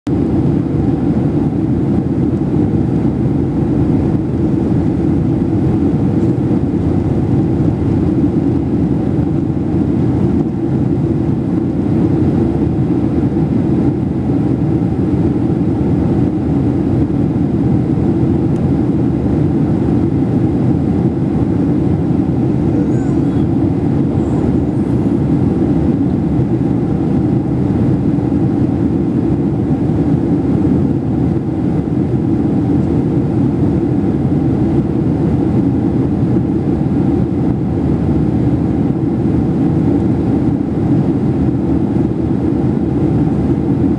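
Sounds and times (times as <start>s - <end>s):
airliner cabin engine rush: 0.1s - 43.9s.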